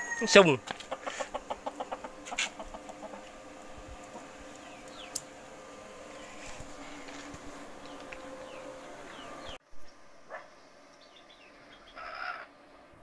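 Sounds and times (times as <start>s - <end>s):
small birds chirping: 0.4s - 5.4s, 6.1s - 12.6s
steady low hum: 0.5s - 13.0s.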